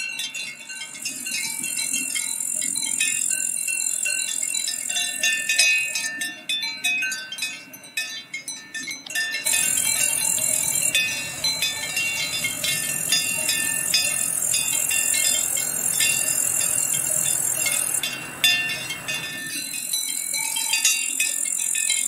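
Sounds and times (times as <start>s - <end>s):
cowbells clanging: 0.0s - 22.0s.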